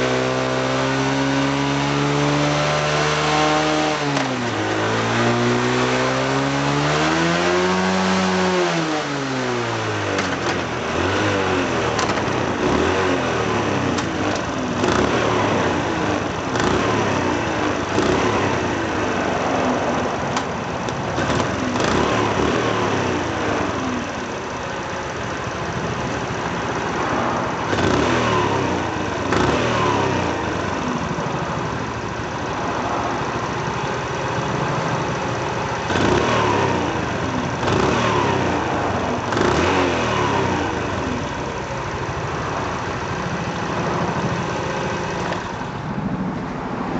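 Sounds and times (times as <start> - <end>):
small motorcycle engine revving: 0.0 - 46.0.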